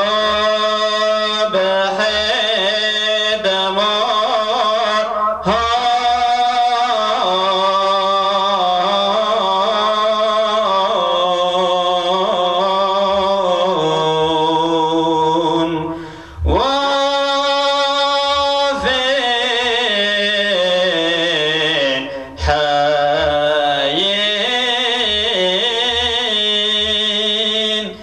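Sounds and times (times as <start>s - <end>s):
man chanting a hymn: 0.0s - 28.0s.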